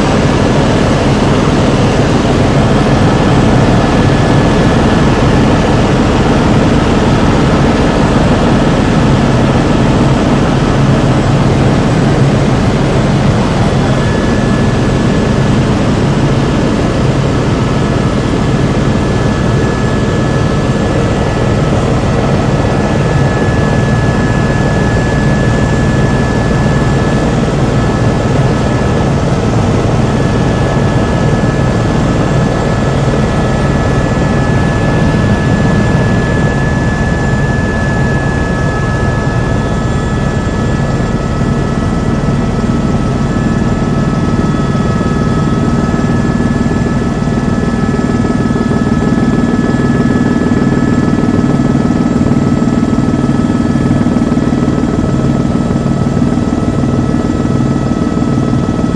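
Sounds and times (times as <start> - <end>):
helicopter engine and rotor drone: 0.0 - 58.9.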